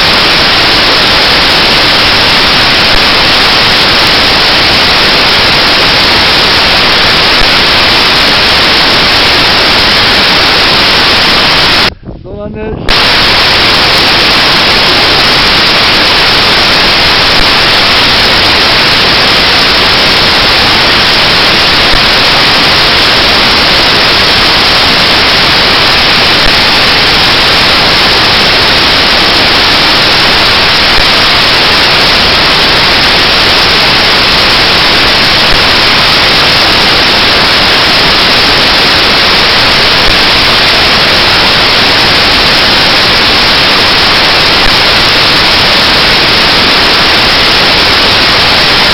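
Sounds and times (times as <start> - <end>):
static hiss: 0.0 - 12.0, 12.7 - 48.9.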